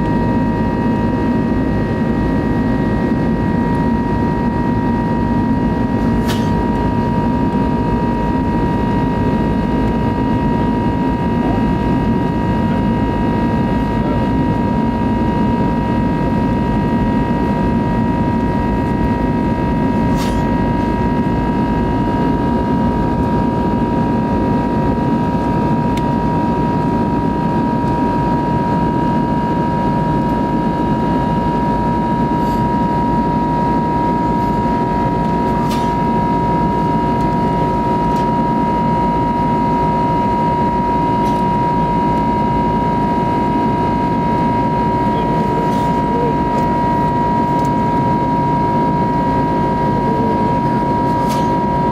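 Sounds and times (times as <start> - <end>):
engine and airflow rumble: 0.0 - 51.9
high whine: 0.0 - 51.9.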